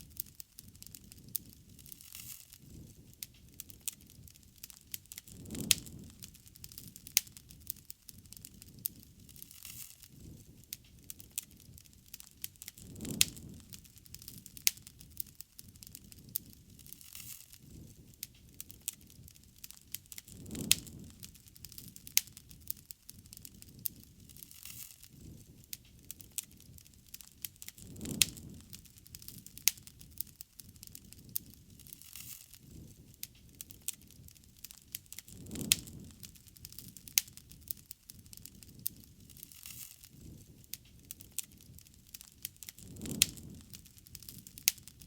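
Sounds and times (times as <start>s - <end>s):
bonfire crackling and popping: 0.0s - 45.0s.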